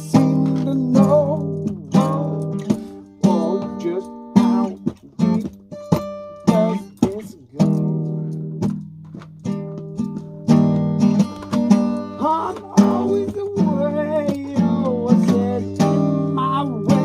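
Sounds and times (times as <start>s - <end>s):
acoustic guitar strummed and plucked: 0.0s - 17.0s.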